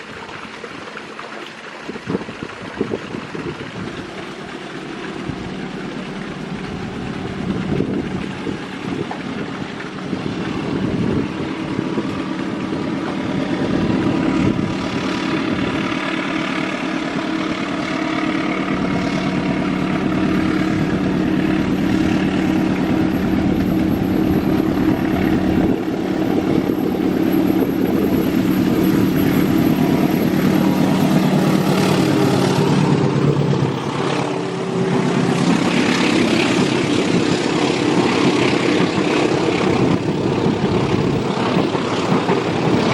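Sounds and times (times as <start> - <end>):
train running on track: 0.0 - 42.9.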